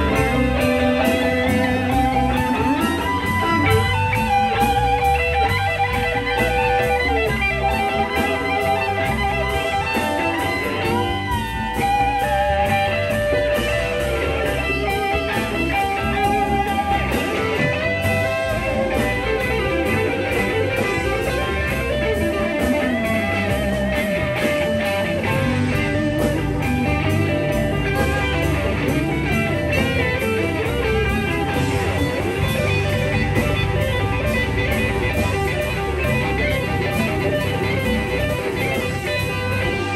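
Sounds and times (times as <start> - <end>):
blues-rock band playing: 0.0 - 39.9
electric guitar bent notes: 0.0 - 39.9.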